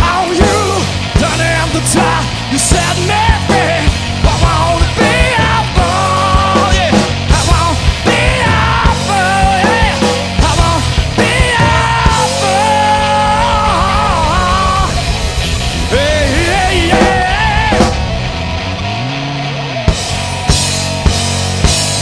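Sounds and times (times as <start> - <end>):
blues-rock band playing live: 0.0 - 22.0.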